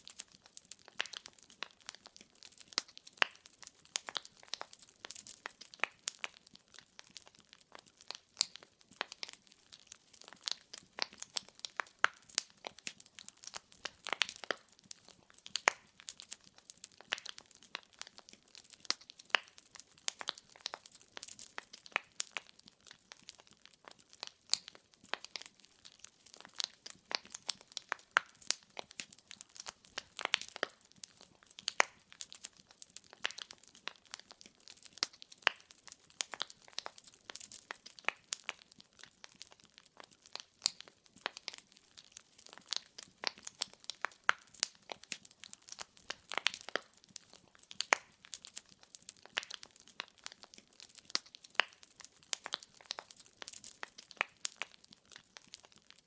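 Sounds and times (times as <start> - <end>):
logs crackling in fire: 0.0 - 56.0.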